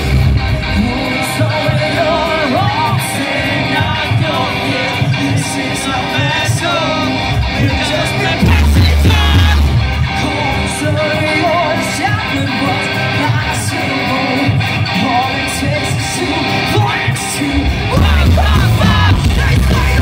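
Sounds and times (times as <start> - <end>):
bass guitar: 0.0 - 20.0
distorted electric guitars: 0.0 - 20.0
drums: 0.0 - 20.0
singer yelling into microphone: 0.7 - 14.2, 14.9 - 20.0.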